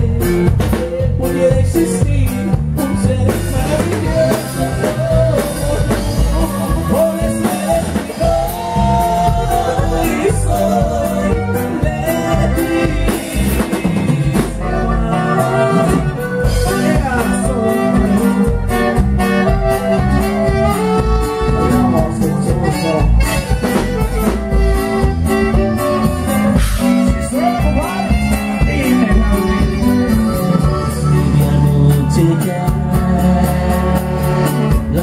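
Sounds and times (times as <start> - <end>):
person singing: 0.0 - 20.1, 26.6 - 35.0
drums and bass beat: 0.0 - 35.0
live dance band playing: 0.0 - 35.0.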